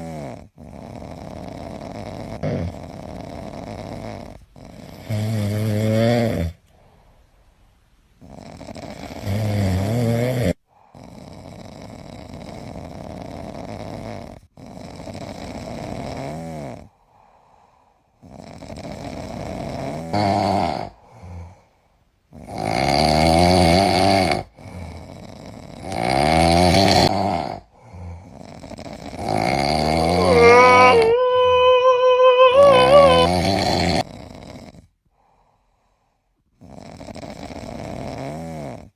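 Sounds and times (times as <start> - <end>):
cat snoring: 0.0 - 6.6, 8.2 - 16.9, 18.2 - 21.6, 22.3 - 34.9, 36.6 - 38.9.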